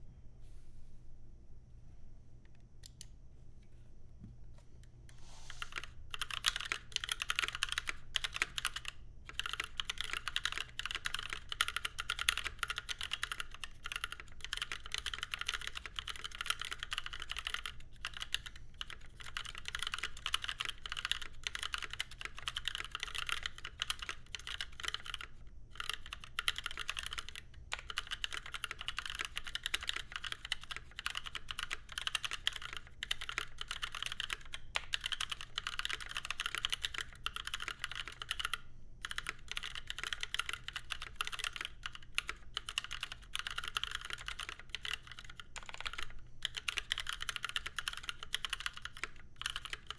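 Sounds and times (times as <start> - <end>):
typing on a mechanical keyboard: 5.5 - 49.9.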